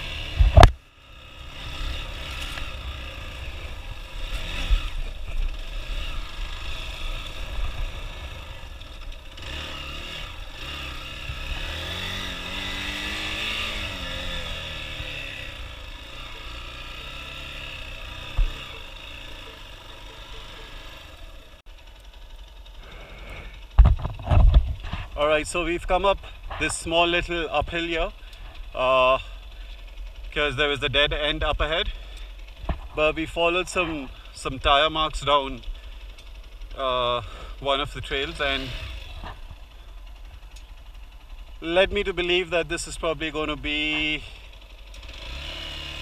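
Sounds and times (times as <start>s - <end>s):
motorcycle engine revving: 0.0s - 46.0s
clatter over rough ground: 1.5s - 46.0s.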